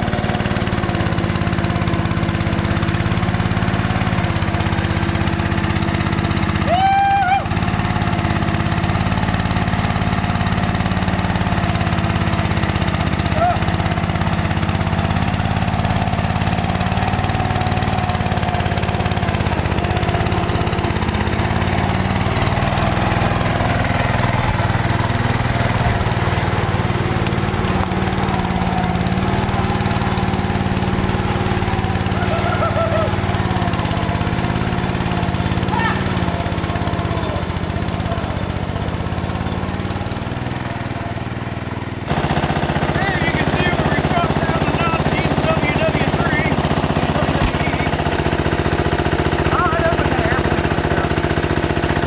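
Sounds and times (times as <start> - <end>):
riding mower engine running: 0.0 - 52.0.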